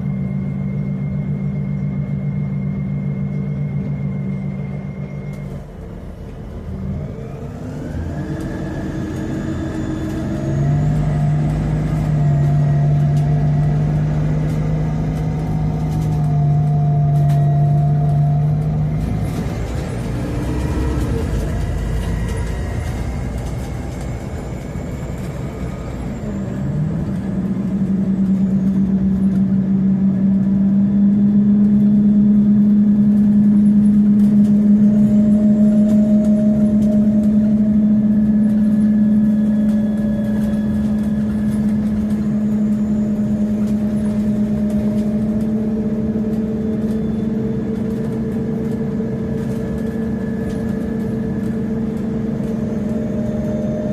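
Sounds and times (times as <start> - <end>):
bus engine under way: 0.0 - 53.9.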